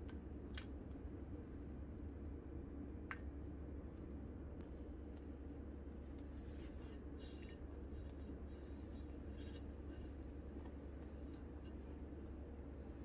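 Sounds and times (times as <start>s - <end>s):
steady low hum: 1.0s - 13.0s.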